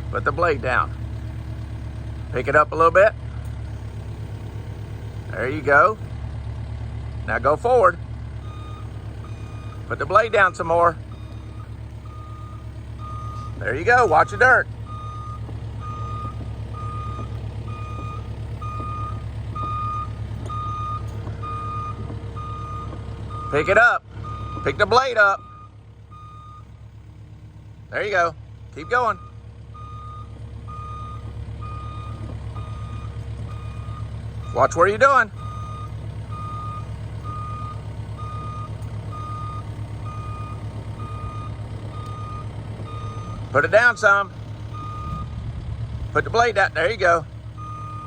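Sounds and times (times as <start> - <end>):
excavator engine hum: 0.0 - 48.0
excavator travel alarm beeping: 0.0 - 48.0.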